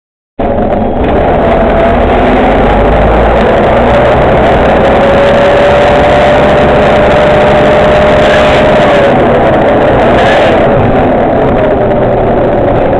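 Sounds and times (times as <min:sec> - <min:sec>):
bus engine and drivetrain: 0:00.4 - 0:12.9
drivetrain whine: 0:00.4 - 0:12.9.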